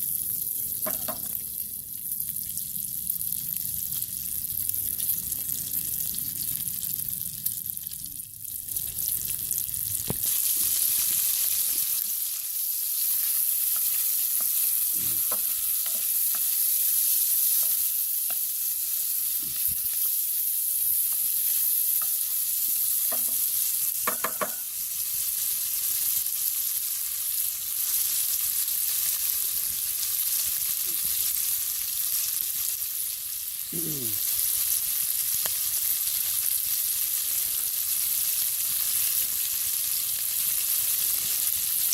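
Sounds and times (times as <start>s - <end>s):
food sizzling in a pan: 0.0s - 41.9s.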